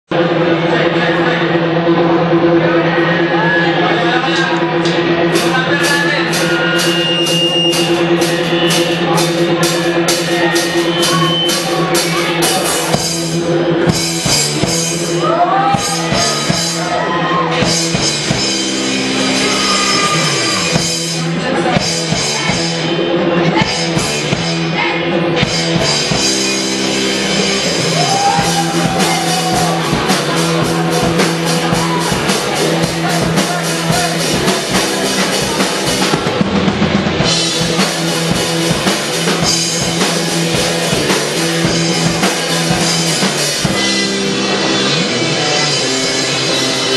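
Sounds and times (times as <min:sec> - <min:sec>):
rock band playing: 0:00.1 - 0:46.9
drum kit beat: 0:01.5 - 0:46.9.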